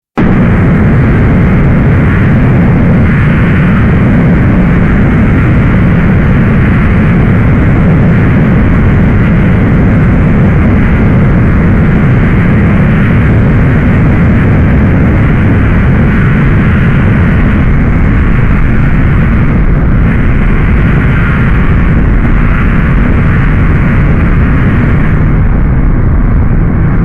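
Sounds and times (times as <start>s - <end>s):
rocket engine rumbling rush: 0.0s - 27.0s.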